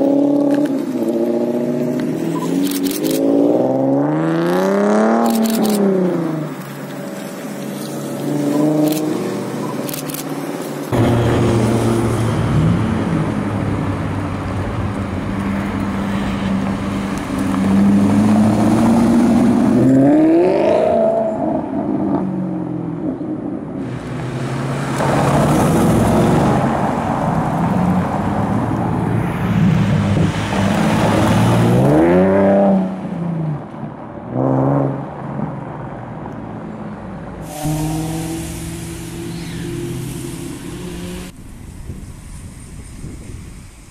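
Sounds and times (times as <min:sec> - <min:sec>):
sports car engines revving: 0:00.0 - 0:36.4, 0:37.0 - 0:42.0.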